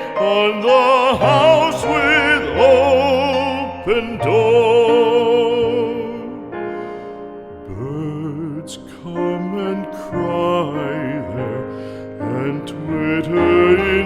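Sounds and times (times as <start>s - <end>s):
operatic voice singing: 0.0s - 6.7s, 7.6s - 14.0s
soft musical accompaniment: 0.0s - 14.0s.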